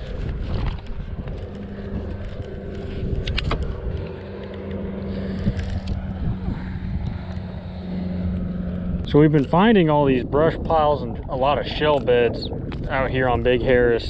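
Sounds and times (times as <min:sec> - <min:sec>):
electric trolling motor humming: 0:00.0 - 0:12.9
wind buffeting microphone: 0:00.0 - 0:14.0.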